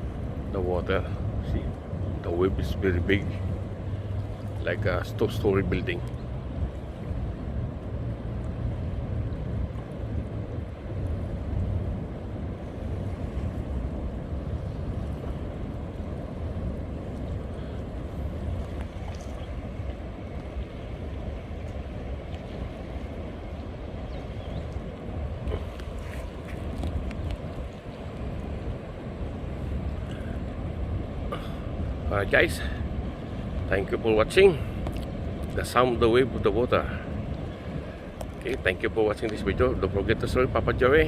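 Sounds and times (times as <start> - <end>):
waves breaking on reef: 0.0 - 41.0
wind buffeting microphone: 0.0 - 41.0.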